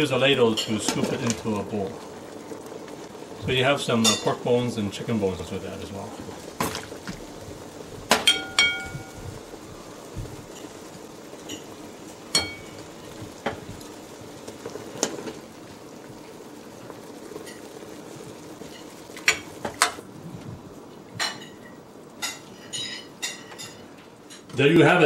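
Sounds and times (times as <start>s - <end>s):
soup bubbling at boil: 0.0s - 25.0s.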